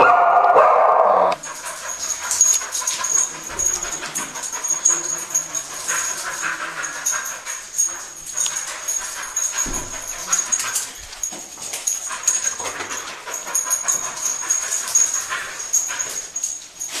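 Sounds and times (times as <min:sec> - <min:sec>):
dog sniffing and breathing: 0:01.4 - 0:17.0.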